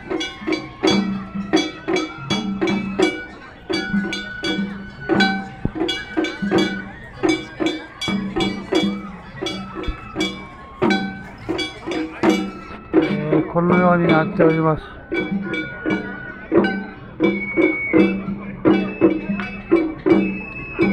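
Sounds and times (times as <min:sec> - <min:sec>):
bamboo flute high notes: 0:00.0 - 0:20.9
taiko drums: 0:00.0 - 0:20.9.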